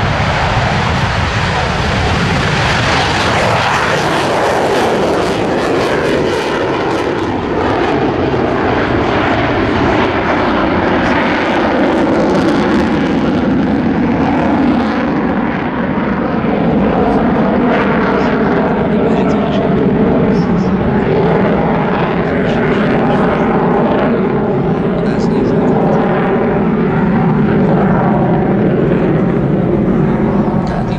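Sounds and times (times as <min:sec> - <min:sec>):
fighter jet engine roaring: 0:00.0 - 0:30.9.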